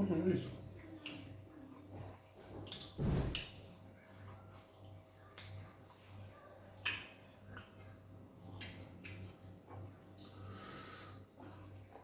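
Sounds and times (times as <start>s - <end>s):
wet eating smacks and squelches: 0.5s - 10.4s.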